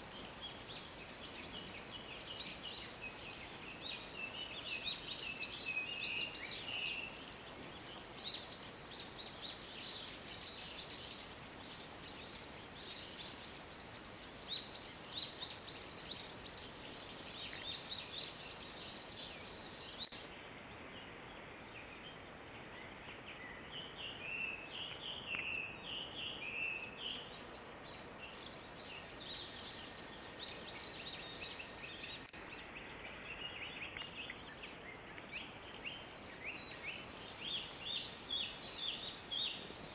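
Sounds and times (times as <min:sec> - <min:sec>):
wild birds chirping and whistling: 0:00.0 - 0:39.9.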